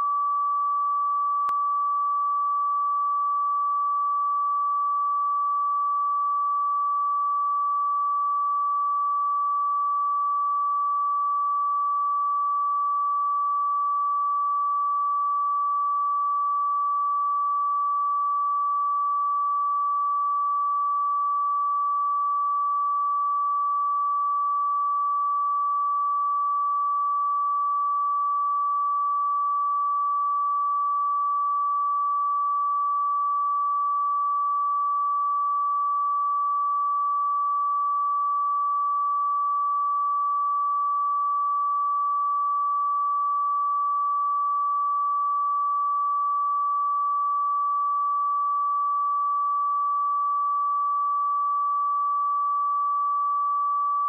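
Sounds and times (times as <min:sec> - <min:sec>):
sine-wave test tone: 0:00.0 - 0:54.0.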